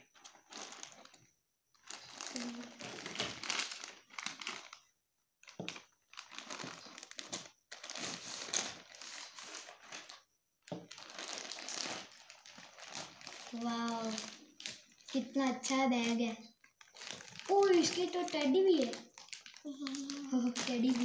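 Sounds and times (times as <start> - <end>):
plastic packaging crinkling: 0.1 - 21.0.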